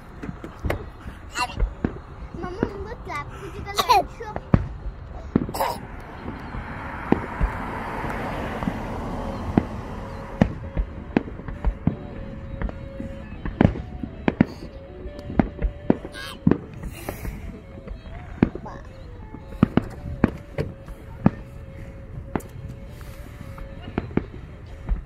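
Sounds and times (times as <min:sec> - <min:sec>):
fireworks bursting: 0:00.0 - 0:25.0
fireworks hissing crackle: 0:00.0 - 0:25.0.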